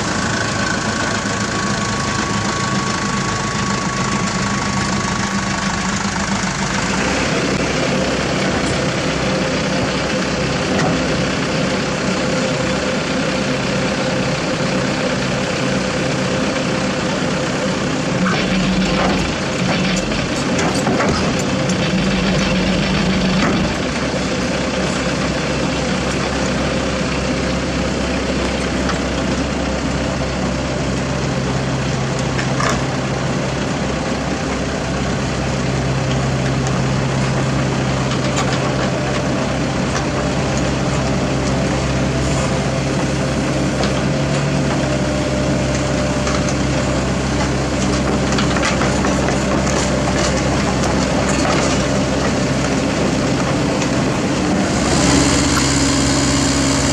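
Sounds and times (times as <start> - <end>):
mini excavator diesel engine: 0.0 - 56.9.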